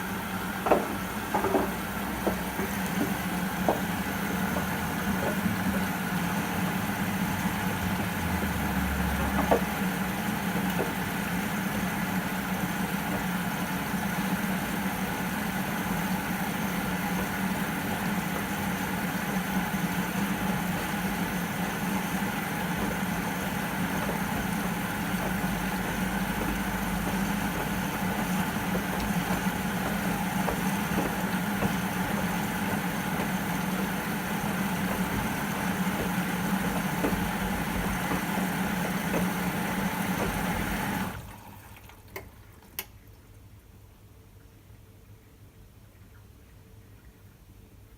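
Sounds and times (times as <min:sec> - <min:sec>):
washing machine humming: 0:00.0 - 0:45.1.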